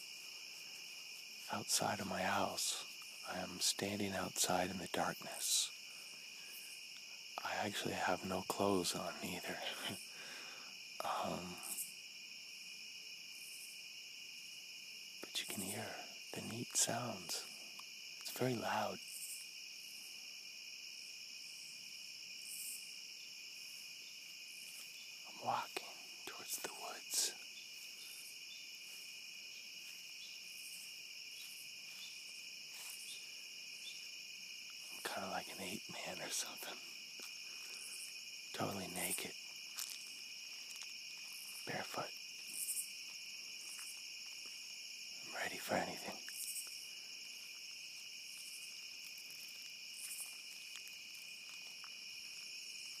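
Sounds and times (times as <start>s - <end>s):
night insects trilling: 0.0s - 53.0s.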